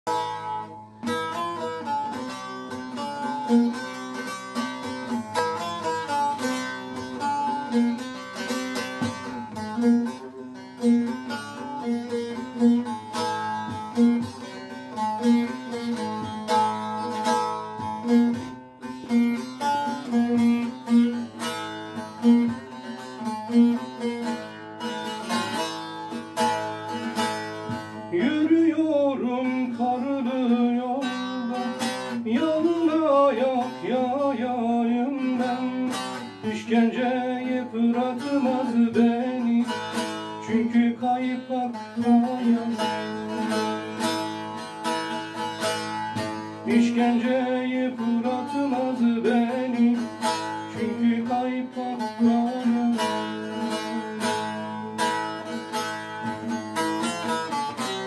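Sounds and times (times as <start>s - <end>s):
long-necked lute folk melody: 0.0s - 58.0s.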